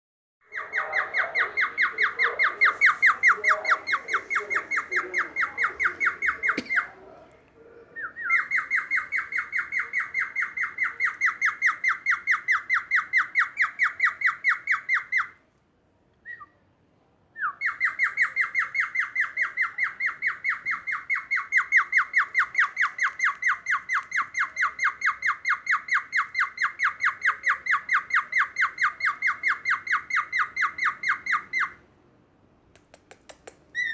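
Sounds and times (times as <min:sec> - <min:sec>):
bird imitating a siren: 0:00.4 - 0:06.9, 0:08.0 - 0:15.4, 0:17.6 - 0:31.8.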